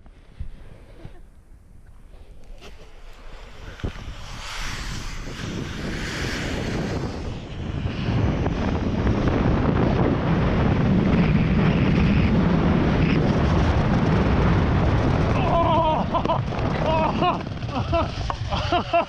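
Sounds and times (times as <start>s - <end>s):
low rumble: 0.0s - 19.0s
wind rushing over microphone: 0.0s - 19.0s.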